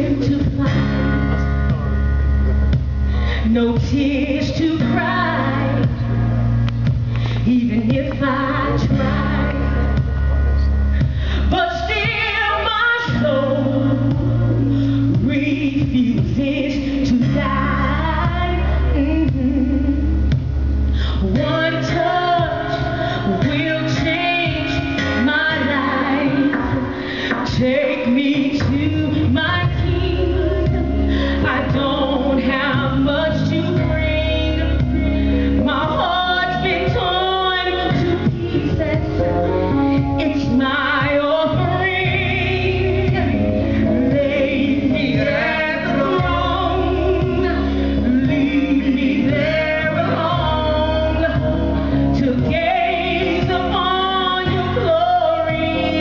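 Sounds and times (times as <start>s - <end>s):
instrumental accompaniment: 0.0s - 56.0s
woman singing into a microphone: 0.0s - 56.0s.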